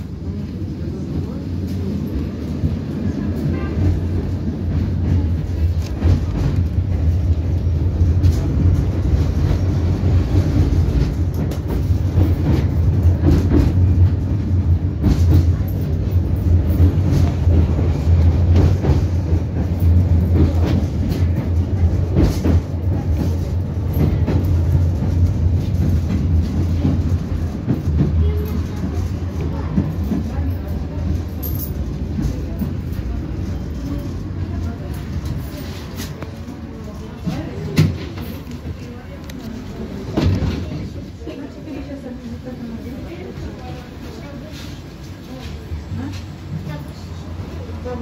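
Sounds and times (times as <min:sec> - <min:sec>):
tram rumbling along track: 0:00.0 - 0:48.0.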